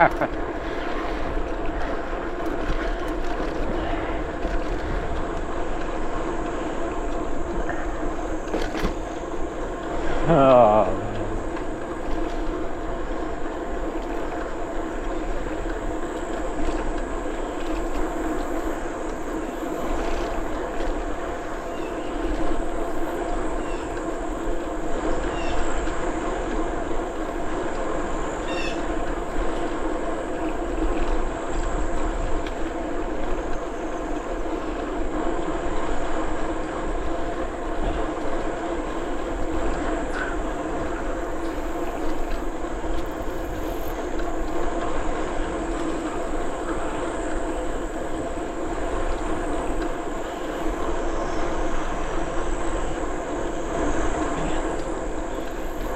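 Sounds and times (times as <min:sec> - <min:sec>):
bicycle tyres and drivetrain hum: 0:00.0 - 0:55.9
wind noise: 0:00.0 - 0:55.9.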